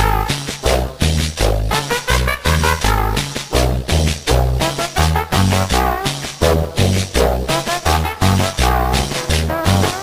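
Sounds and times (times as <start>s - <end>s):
upbeat cumbia music: 0.0s - 10.0s.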